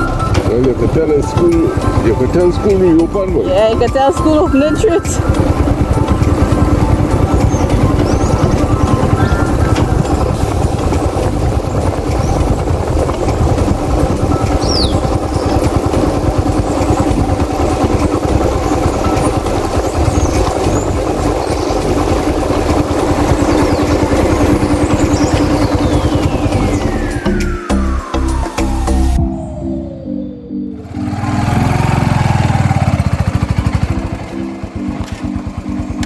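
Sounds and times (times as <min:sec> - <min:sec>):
motorcycle engine running: 0:00.0 - 0:30.1, 0:30.8 - 0:36.0
heavy low rumble: 0:00.0 - 0:34.9.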